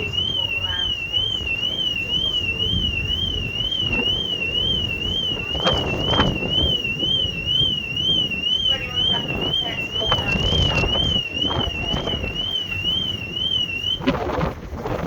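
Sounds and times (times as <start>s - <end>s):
electronic warbling alarm: 0.0s - 15.0s
steady low rumble: 0.0s - 15.0s.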